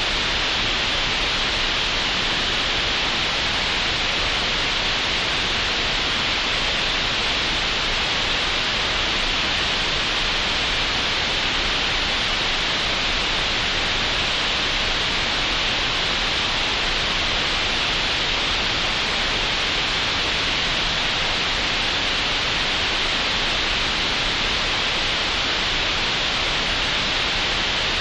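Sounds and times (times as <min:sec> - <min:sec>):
steady synthetic hiss: 0:00.0 - 0:28.0.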